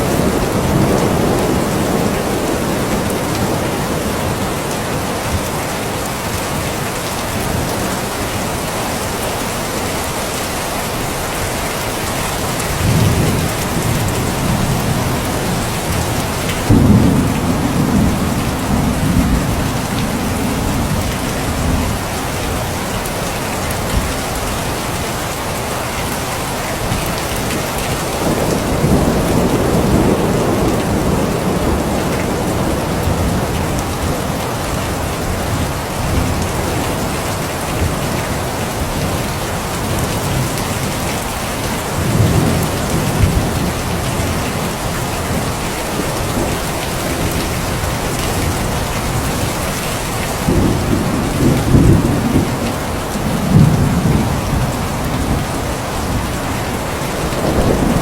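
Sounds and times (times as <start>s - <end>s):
rolling thunder rumbles: 0.0s - 6.6s, 12.4s - 23.2s, 26.8s - 58.0s
steady rain falling: 0.0s - 58.0s.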